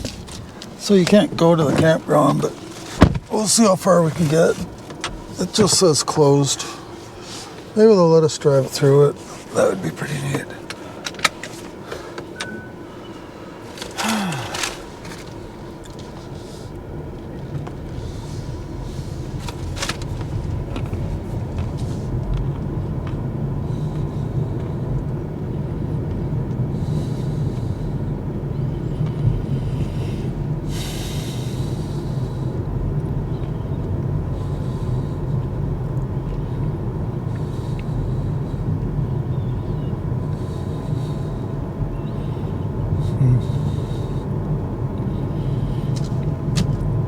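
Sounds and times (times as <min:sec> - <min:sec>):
road and tyre rumble: 0:00.0 - 0:47.0.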